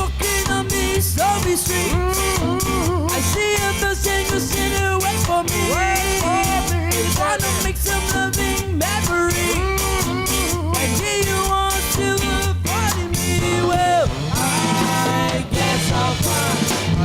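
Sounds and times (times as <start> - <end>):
ska band playing: 0.0 - 17.0.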